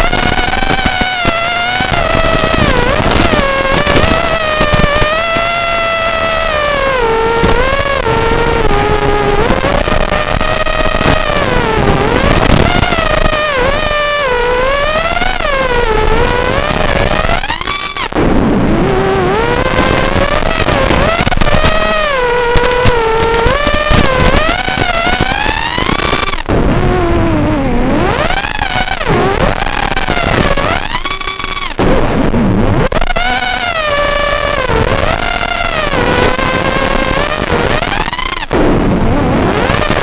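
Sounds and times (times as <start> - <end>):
drone propellers whining: 0.0 - 40.0.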